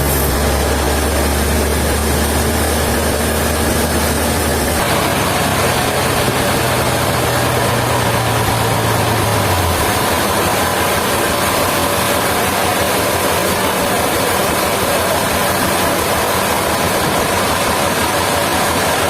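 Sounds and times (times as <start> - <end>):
heavy machinery running: 0.0 - 19.0.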